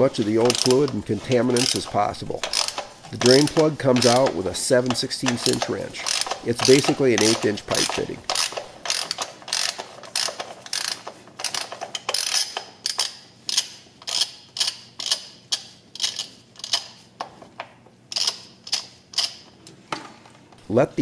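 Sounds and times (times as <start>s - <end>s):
ratchet wrench clicking: 0.1s - 17.0s, 18.1s - 19.5s.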